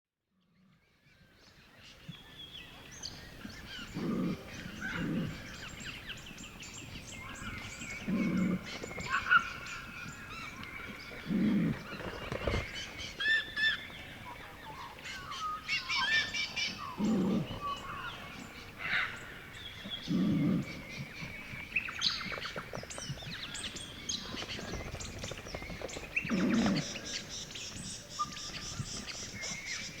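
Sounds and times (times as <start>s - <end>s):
birds chirping in chorus: 1.6s - 30.0s.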